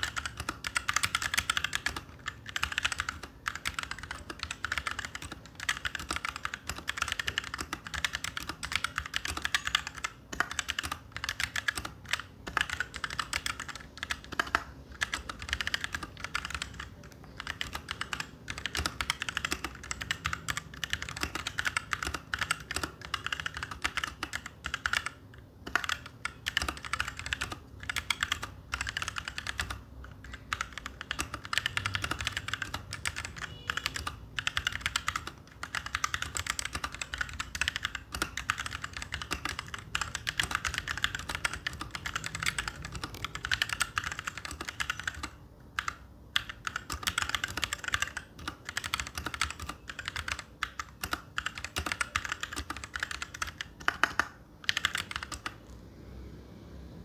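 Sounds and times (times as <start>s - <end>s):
fast mechanical keyboard typing: 0.0s - 55.7s.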